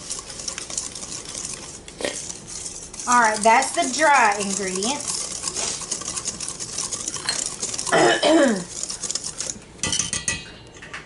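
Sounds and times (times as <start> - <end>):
whisk scraping metal bowl: 0.0 - 10.3.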